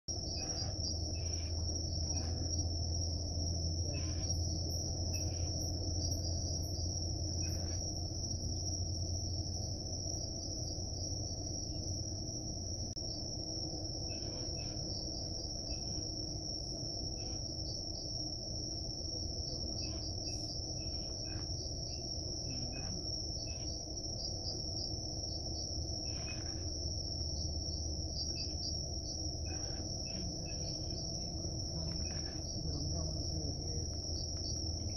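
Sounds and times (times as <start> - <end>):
night insects chorus: 0.1 - 34.9.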